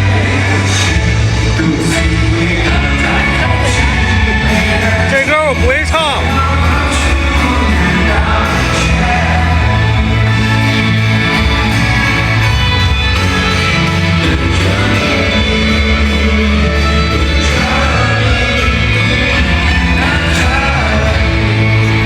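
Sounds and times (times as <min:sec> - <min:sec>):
live rock band with singing: 0:00.0 - 0:22.0.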